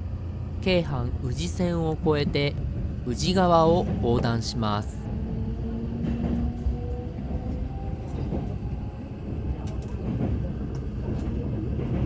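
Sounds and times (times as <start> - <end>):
train rumbling over bridge: 0.0 - 12.0.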